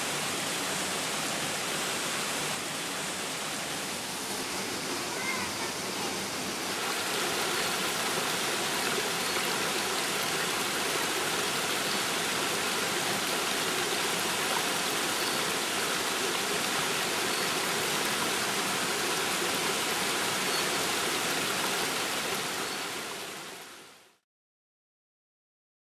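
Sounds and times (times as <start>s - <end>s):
waterfall and stream over rocks: 0.0s - 24.2s.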